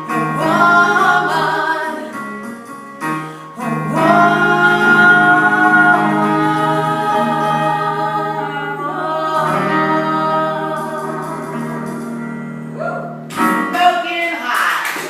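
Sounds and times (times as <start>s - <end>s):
singers holding long notes: 0.0s - 2.5s, 3.5s - 13.3s
musical accompaniment: 0.0s - 14.6s.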